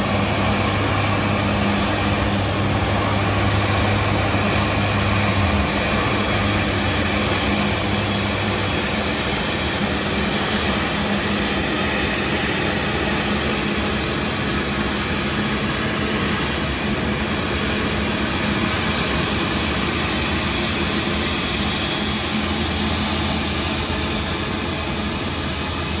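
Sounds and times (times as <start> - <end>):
jet engines at taxi power: 0.0 - 26.0.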